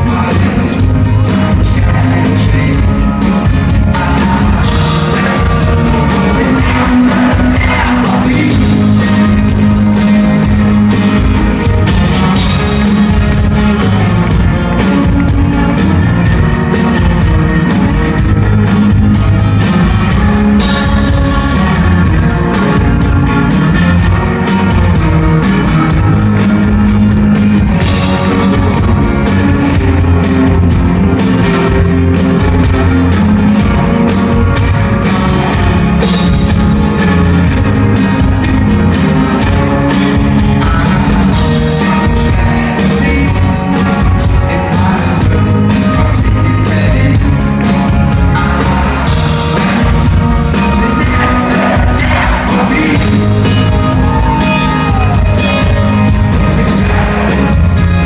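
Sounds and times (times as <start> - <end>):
drum kit steady beat: 0.0 - 58.0
live rock band playing: 0.0 - 58.0.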